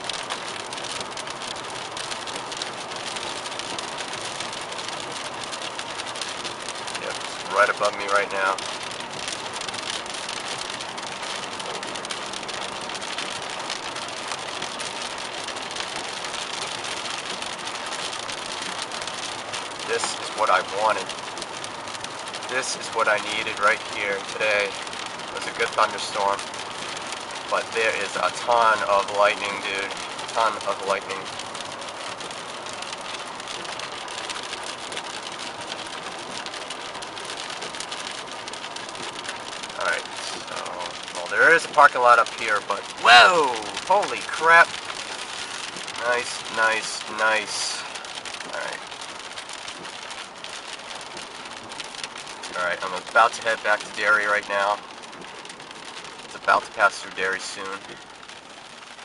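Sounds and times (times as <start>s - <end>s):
heavy rain on a car: 0.0s - 59.0s.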